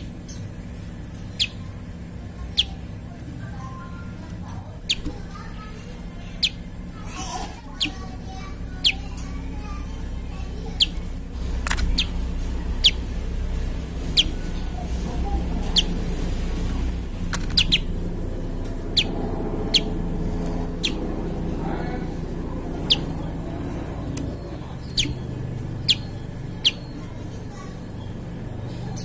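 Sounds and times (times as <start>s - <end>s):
bird chirping: 0.0s - 29.0s
steady low hum: 0.0s - 29.0s.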